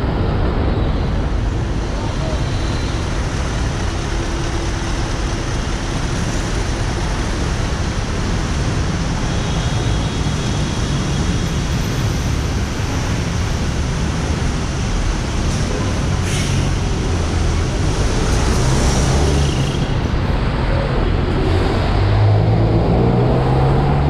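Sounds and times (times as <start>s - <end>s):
car and truck engines rumbling: 0.0s - 24.0s.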